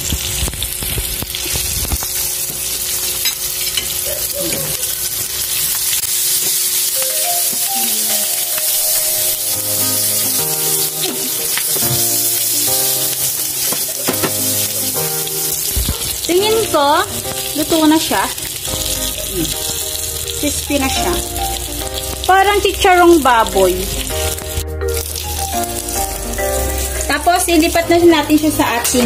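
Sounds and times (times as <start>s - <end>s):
grubs sizzling in oil: 0.0s - 29.0s.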